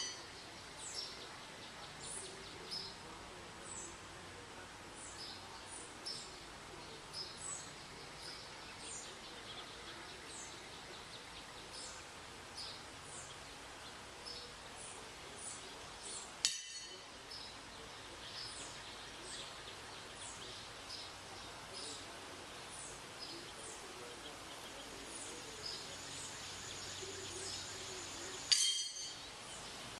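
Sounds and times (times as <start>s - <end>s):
birds chirping: 0.0s - 29.9s
faint outdoor background: 0.0s - 29.9s.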